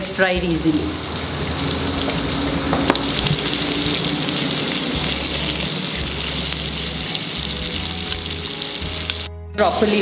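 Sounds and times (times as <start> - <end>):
onions sizzling in a pan: 0.5 - 10.0.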